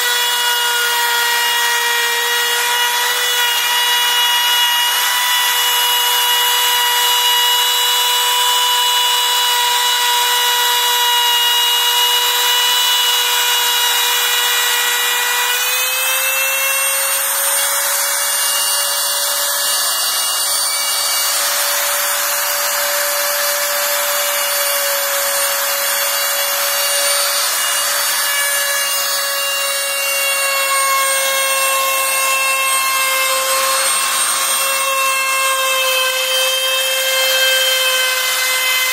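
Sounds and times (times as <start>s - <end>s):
router bit rasping through wood: 0.0s - 38.9s
router motor whining: 0.0s - 38.9s.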